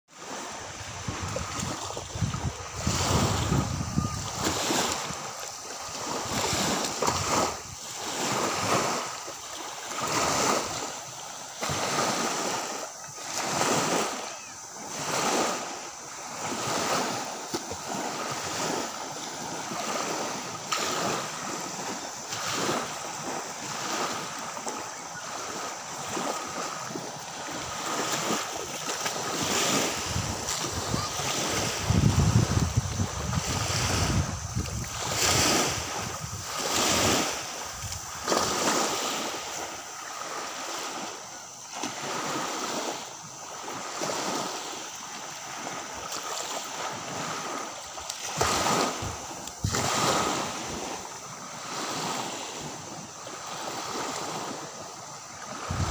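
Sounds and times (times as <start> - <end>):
small waves lapping on beach: 0.1 - 55.9.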